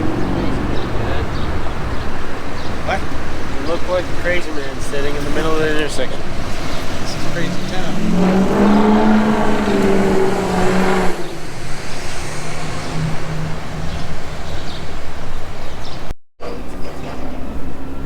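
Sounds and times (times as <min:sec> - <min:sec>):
vehicle engine hum: 0:00.0 - 0:16.1
road noise: 0:00.0 - 0:18.0.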